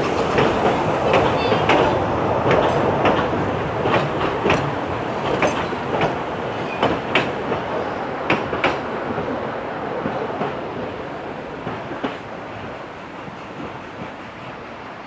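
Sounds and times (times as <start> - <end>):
train wheels clicking over rail joints: 0.0 - 9.3, 11.5 - 14.6
train rumbling rush: 0.0 - 15.0.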